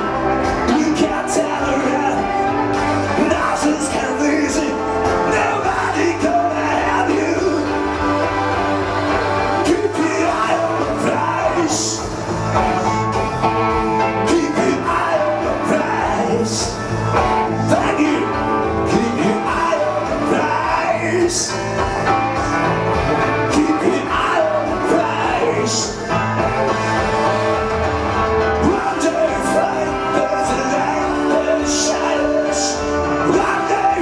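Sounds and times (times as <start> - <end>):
man singing: 0.0 - 8.5, 9.4 - 27.6, 28.4 - 34.0
karaoke backing track: 0.0 - 34.0.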